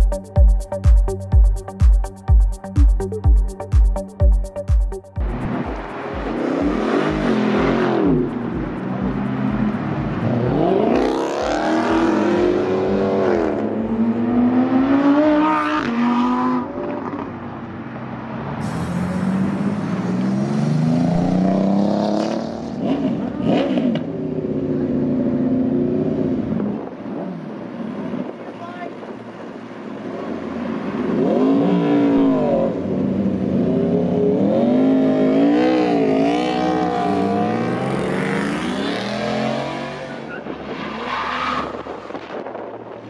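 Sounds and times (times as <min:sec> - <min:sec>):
car engines revving: 0:05.2 - 0:28.4, 0:29.0 - 0:43.0.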